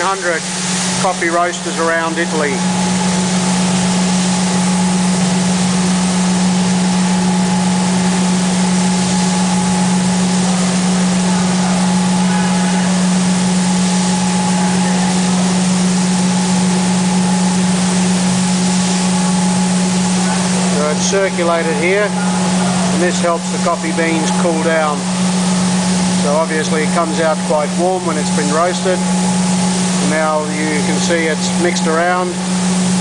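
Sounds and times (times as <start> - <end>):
air hissing: 0.0 - 33.0
coffee roaster machine hum: 0.0 - 33.0
high whine: 0.0 - 33.0.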